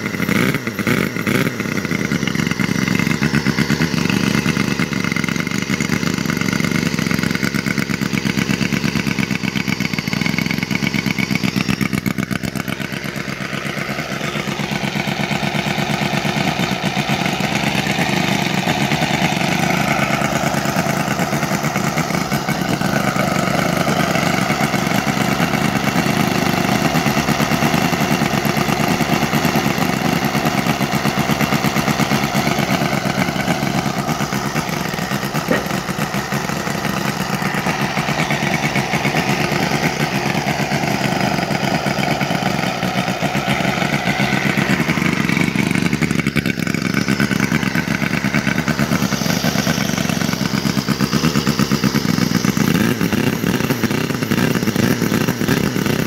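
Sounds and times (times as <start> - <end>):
model engine running: 0.0 - 56.0.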